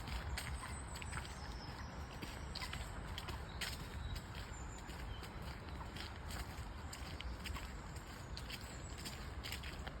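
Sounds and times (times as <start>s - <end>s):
footsteps crunching on a path: 0.0s - 10.0s.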